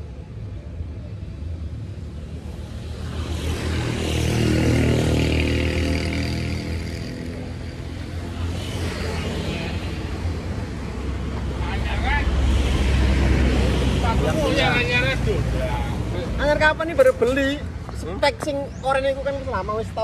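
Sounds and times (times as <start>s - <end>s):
motor vehicle passing: 2.3s - 20.0s.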